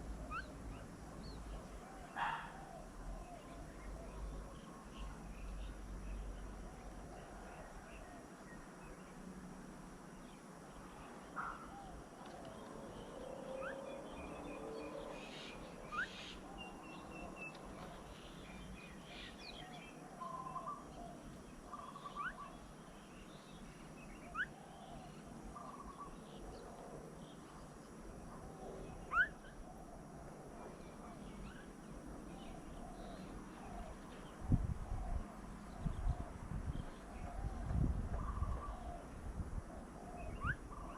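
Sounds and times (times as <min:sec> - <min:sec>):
birds chirping: 0:00.0 - 0:09.2, 0:10.2 - 0:39.2, 0:39.8 - 0:40.9.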